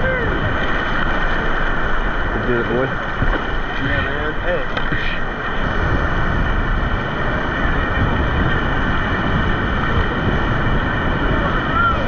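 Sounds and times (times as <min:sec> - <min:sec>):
river rapids roaring: 0:00.0 - 0:12.0.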